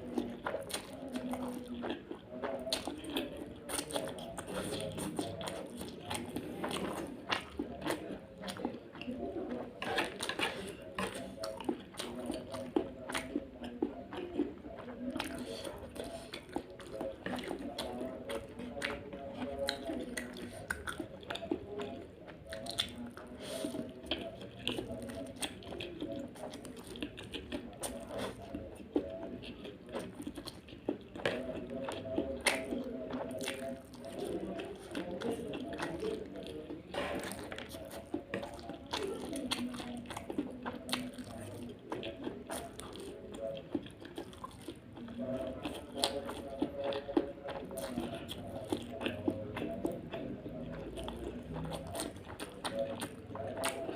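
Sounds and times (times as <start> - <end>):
wet noodle eating mouth sounds: 0.0 - 53.9.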